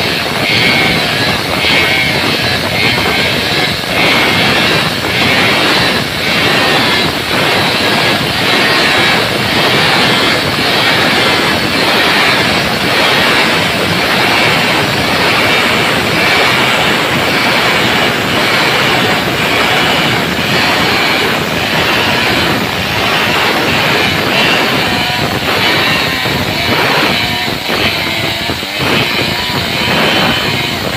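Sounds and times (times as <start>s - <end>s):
chainsaw cutting log: 0.0s - 30.9s.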